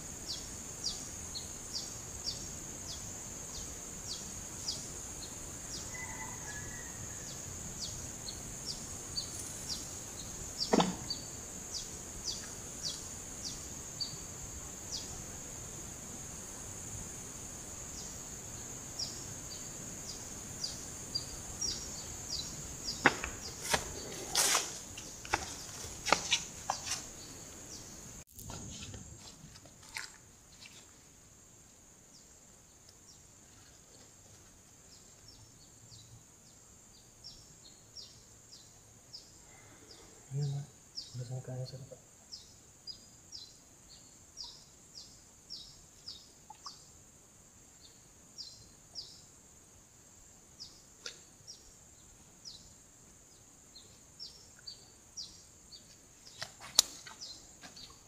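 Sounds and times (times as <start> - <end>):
short insect chirps: 0.0 - 33.8, 34.8 - 58.0.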